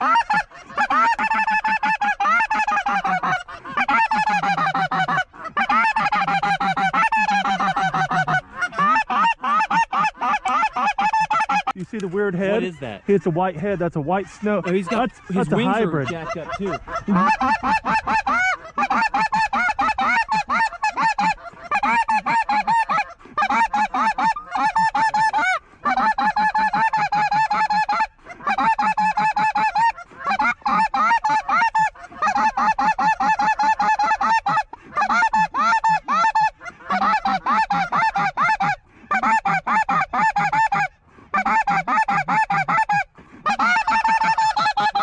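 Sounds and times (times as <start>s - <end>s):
flock of geese honking: 0.0s - 45.0s.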